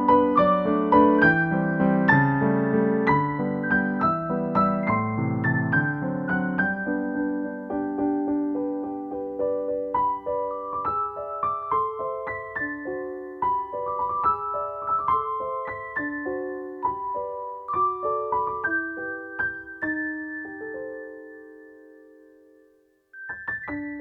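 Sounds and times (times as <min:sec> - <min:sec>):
soft piano music: 0:00.0 - 0:24.0.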